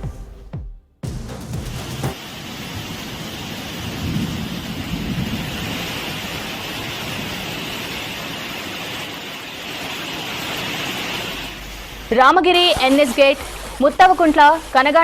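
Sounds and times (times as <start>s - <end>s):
rushing water: 2.1s - 15.0s.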